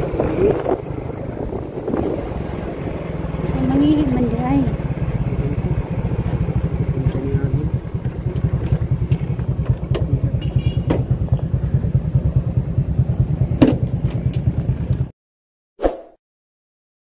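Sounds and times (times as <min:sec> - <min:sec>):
small engine throbbing: 0:00.0 - 0:13.7.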